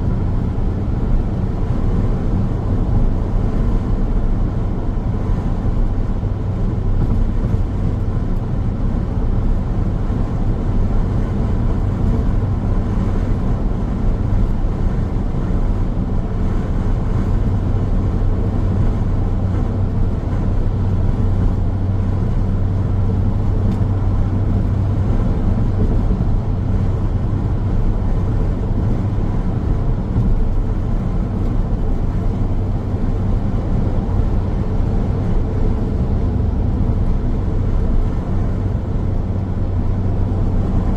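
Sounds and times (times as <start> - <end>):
car tyre and road noise: 0.0 - 40.9
low engine hum: 0.0 - 40.9.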